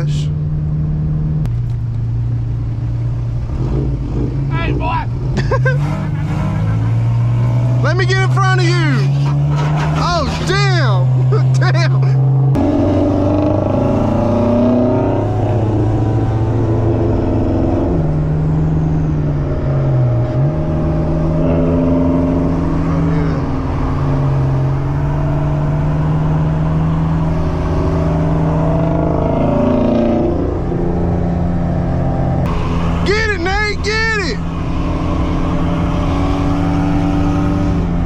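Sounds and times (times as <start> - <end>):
car engine droning: 0.0 - 38.0
road noise: 0.0 - 38.0.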